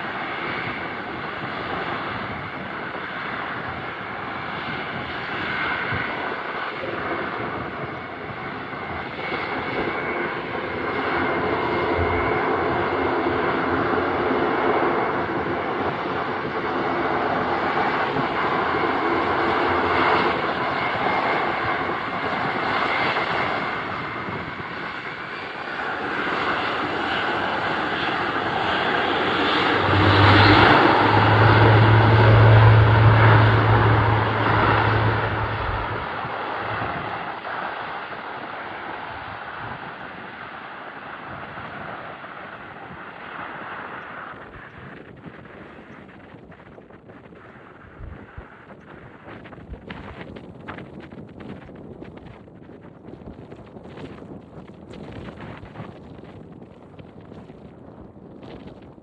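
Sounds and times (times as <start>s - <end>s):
turboprop aircraft passing: 0.0s - 50.9s.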